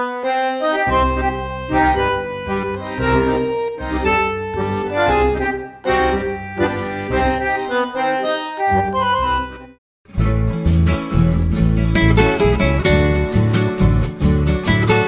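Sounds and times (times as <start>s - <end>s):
accordion folk music: 0.0s - 15.0s.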